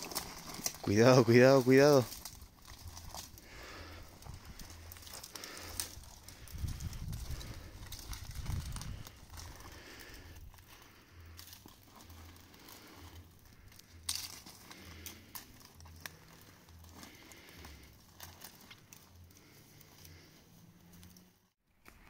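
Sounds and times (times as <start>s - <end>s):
footsteps through dry brush: 0.0s - 22.0s.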